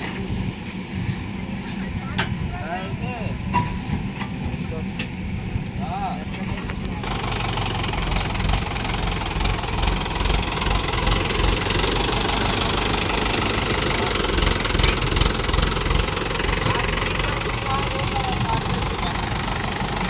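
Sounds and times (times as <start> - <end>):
diesel engine running: 3.4 - 20.0.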